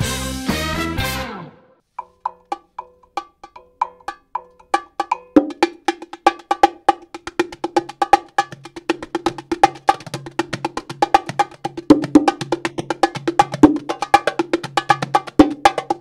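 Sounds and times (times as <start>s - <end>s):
pitched percussion strikes: 2.0s - 16.0s.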